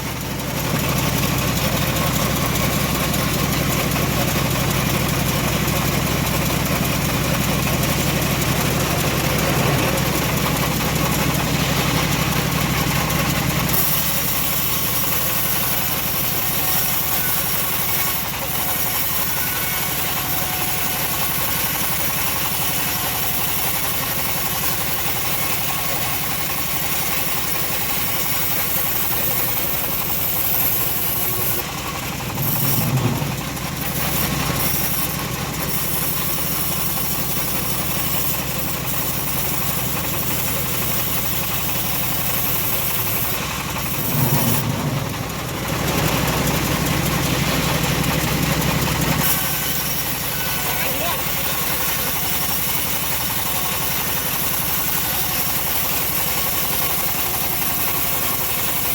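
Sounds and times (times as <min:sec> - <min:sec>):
bandsaw sawmill droning: 0:00.0 - 0:58.9.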